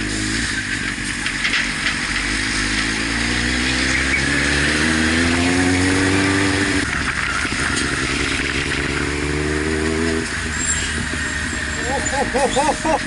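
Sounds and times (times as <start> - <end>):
vehicle engine accelerating: 0.0 - 13.0
wind and road noise: 0.0 - 13.0.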